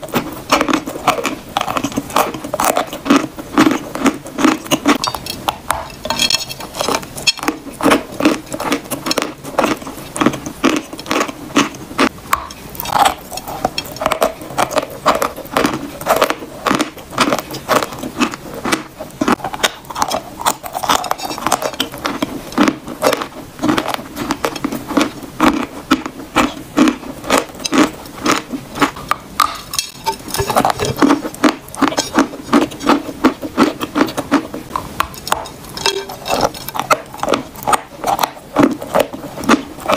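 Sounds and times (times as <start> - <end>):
chalk crunching and chewing: 0.0 - 39.9.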